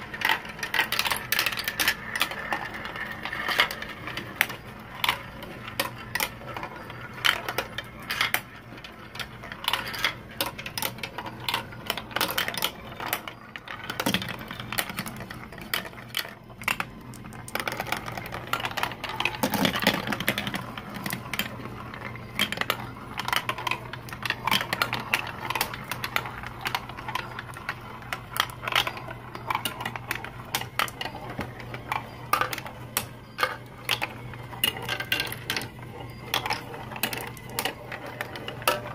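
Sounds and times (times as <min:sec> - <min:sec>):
marbles clattering through plastic run: 0:00.0 - 0:38.9.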